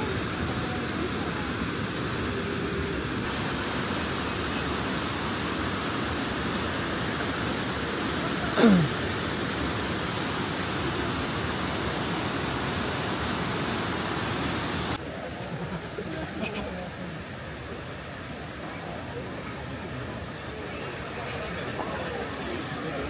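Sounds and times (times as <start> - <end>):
river running over rocks: 0.0 - 23.0.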